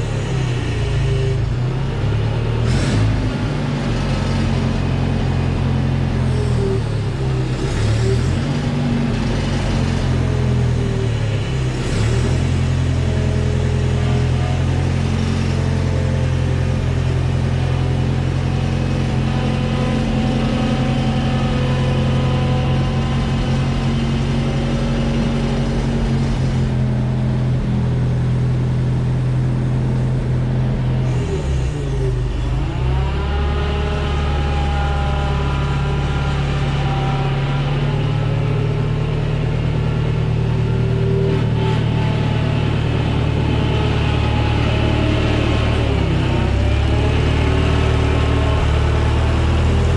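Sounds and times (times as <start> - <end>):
skid steer engine running: 0.0 - 49.9.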